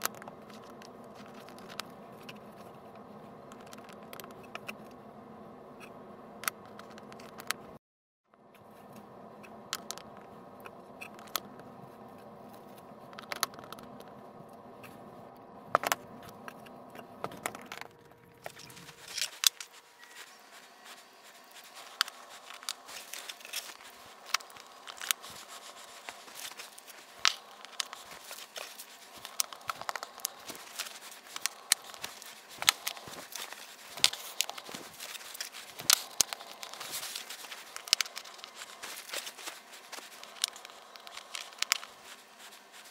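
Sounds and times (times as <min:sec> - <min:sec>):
steady hum: 0:00.0 - 0:42.9.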